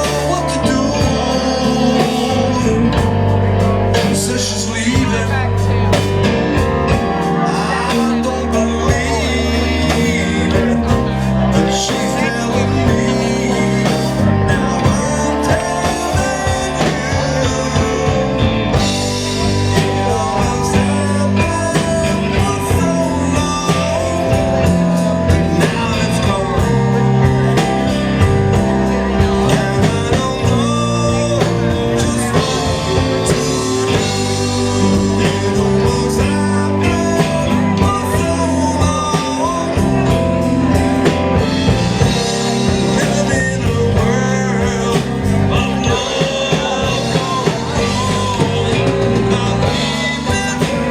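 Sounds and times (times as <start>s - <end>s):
blues band playing: 0.0s - 50.9s
lead vocal singing: 0.0s - 50.9s.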